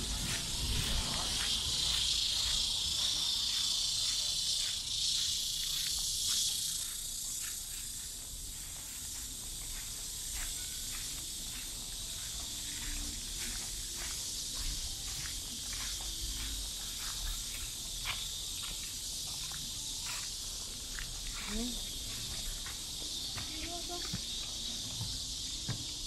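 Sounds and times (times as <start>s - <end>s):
cicadas buzzing: 0.0s - 26.0s
footsteps on a path: 0.0s - 26.0s.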